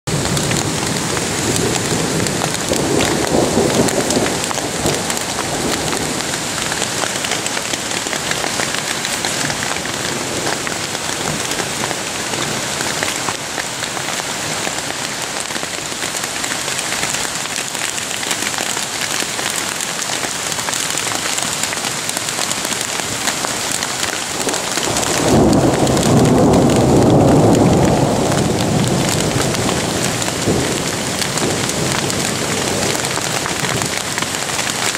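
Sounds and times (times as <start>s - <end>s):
hail pelting a tent: 0.1s - 34.9s.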